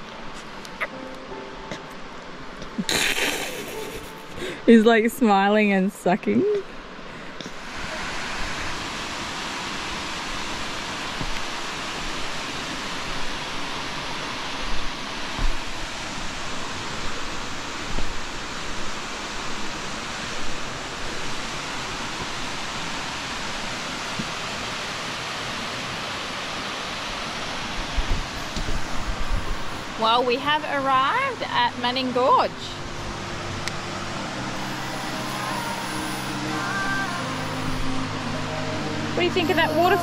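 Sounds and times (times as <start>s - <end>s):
falling water hissing: 2.8s - 4.6s, 7.5s - 40.0s.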